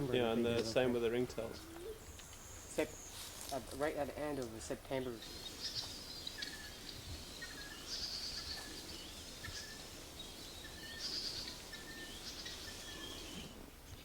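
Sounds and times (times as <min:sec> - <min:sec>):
faint outdoor background hiss: 0:00.0 - 0:14.0
wild birds calling: 0:00.0 - 0:14.0.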